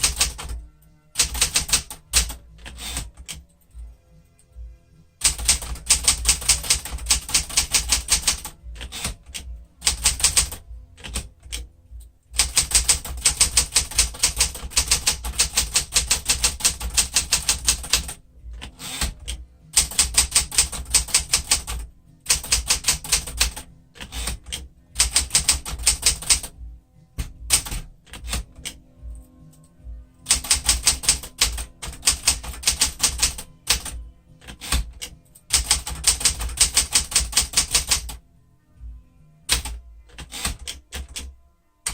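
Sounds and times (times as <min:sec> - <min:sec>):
typewriter keys clacking: 0:00.0 - 0:03.5, 0:05.2 - 0:11.7, 0:12.4 - 0:26.5, 0:27.2 - 0:28.8, 0:30.3 - 0:38.2, 0:39.5 - 0:41.3.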